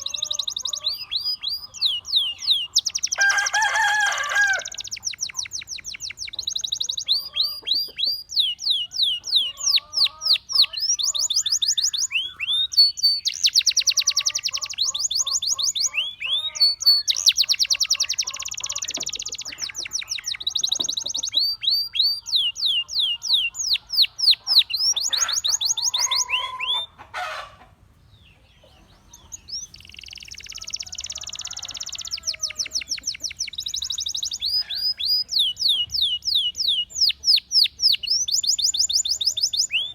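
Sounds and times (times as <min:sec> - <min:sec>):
canary singing whistled trills: 0:00.0 - 0:27.0, 0:28.6 - 0:39.9.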